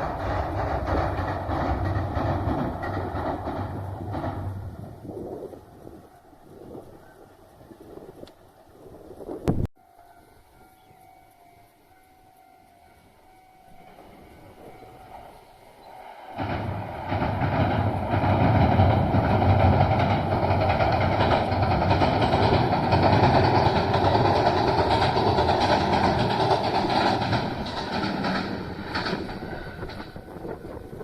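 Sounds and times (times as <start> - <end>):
wheels clacking over rail joints: 0.0 - 7.2, 12.4 - 31.0
train passing rumble: 0.0 - 31.0.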